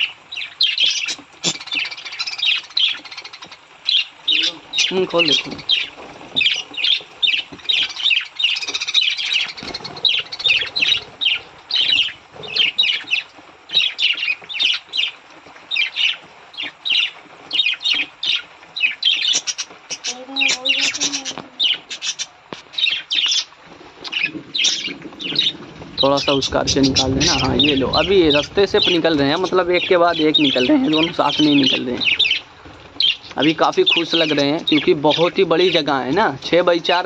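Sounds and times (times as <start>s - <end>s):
budgerigars chattering and squawking: 0.0s - 37.0s.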